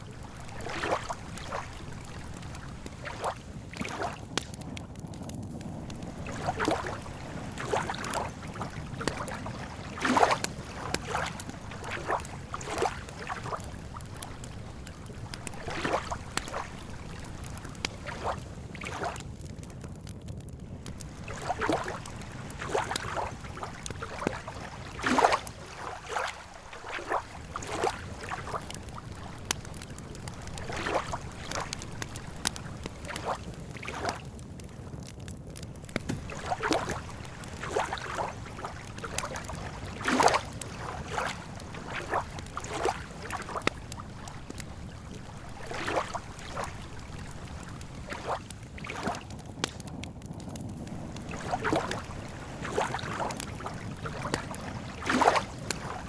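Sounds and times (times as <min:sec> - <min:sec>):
lake water lapping: 0:00.0 - 0:05.1, 0:05.8 - 0:19.3, 0:20.8 - 0:34.4, 0:35.8 - 0:49.9, 0:50.6 - 0:56.0
campfire crackling and popping: 0:00.0 - 0:56.0.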